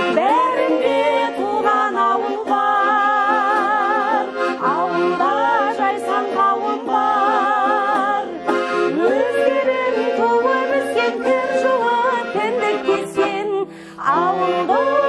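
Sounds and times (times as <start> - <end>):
button accordion playing: 0.0 - 15.0
person singing: 0.0 - 15.0.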